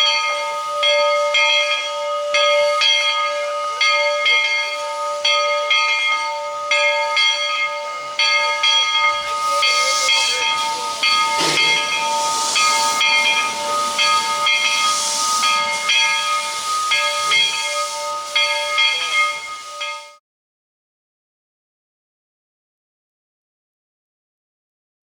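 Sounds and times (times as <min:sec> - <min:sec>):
steam hissing: 0:00.0 - 0:20.2
steam locomotive bell ringing: 0:00.0 - 0:20.2.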